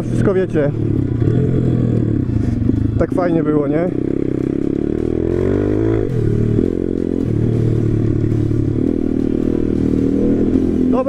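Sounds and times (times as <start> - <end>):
pit bike engine revving: 0.0 - 11.0.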